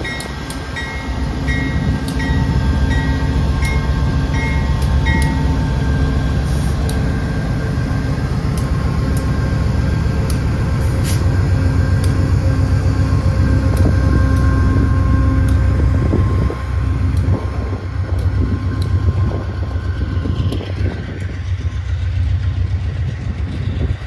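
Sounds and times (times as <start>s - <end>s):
diesel locomotive engine: 0.0s - 24.0s.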